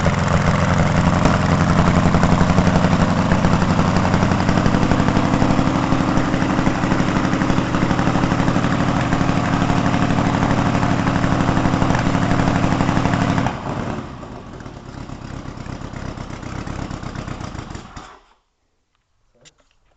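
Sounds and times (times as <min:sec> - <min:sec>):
car engine running and idling: 0:00.0 - 0:18.2.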